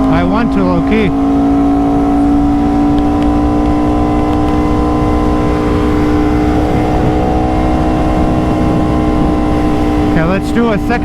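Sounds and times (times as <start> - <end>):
low rumbling wind noise: 0.0 - 11.0
motorcycle engine running: 0.0 - 11.0.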